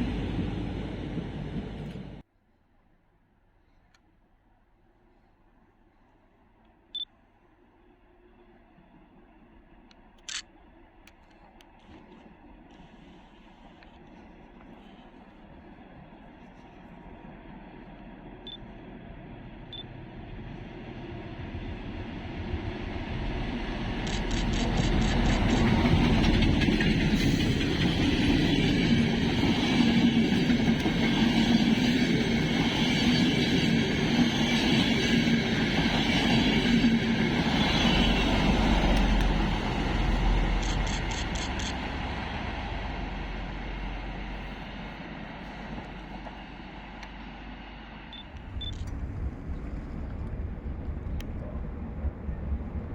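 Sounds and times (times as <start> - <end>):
diesel train passing: 0.0 - 2.3, 12.3 - 52.9
locomotive engine and rail rumble: 0.0 - 2.3, 4.4 - 52.9.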